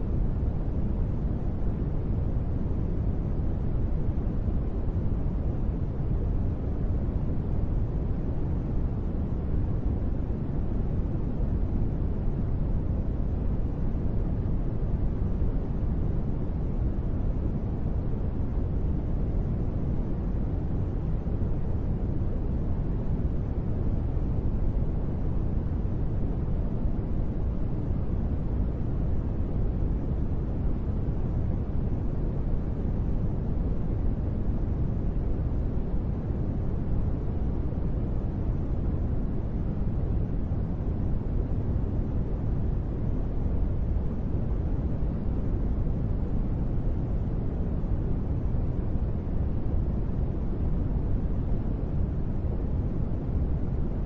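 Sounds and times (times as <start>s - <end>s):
rain-style white noise: 0.0s - 54.0s.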